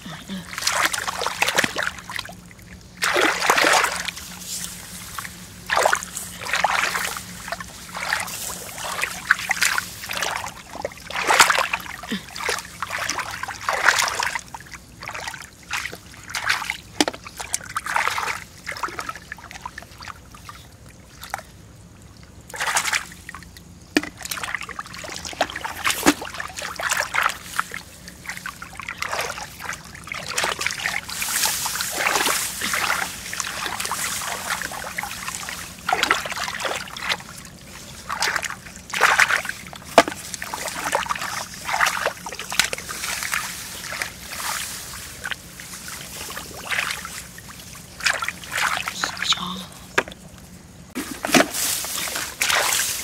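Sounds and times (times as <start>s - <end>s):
shallow water splashing: 0.1s - 21.5s, 22.5s - 50.3s, 50.9s - 53.0s.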